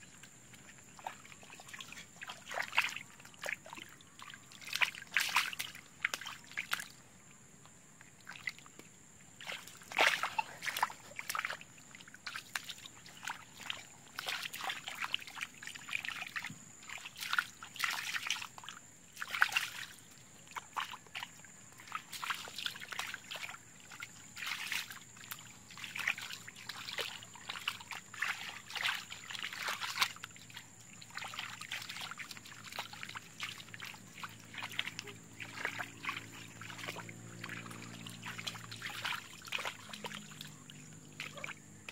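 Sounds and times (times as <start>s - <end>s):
hands splashing in muddy water: 0.2s - 7.0s, 8.2s - 41.9s.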